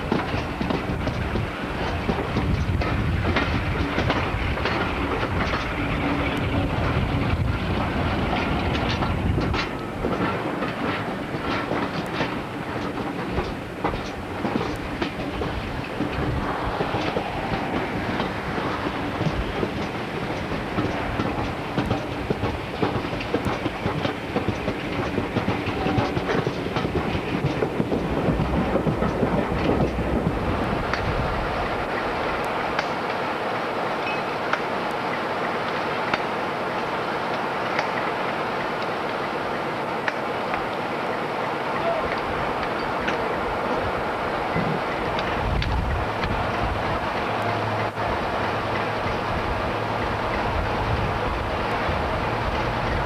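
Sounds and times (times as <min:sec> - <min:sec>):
train rumble: 0:00.0 - 0:53.0
train wheels clicking over rail joints: 0:00.0 - 0:53.0.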